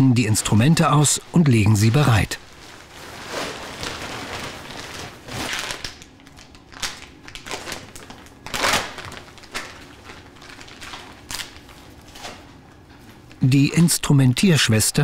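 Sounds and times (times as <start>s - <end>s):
plastic and paper packs crinkling: 0.2s - 12.5s.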